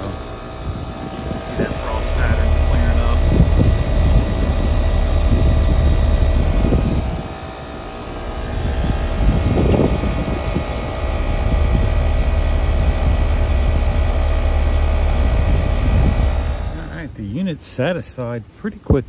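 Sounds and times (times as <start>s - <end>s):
compressor hum: 0.0s - 19.0s
condenser fan rumble: 0.0s - 19.0s.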